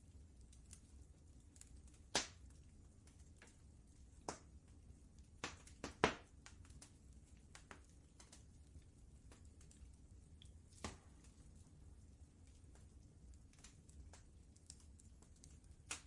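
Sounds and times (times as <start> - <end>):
low steady rumble: 0.0 - 5.4, 6.3 - 16.0
wood fire crackling and popping: 0.0 - 16.0.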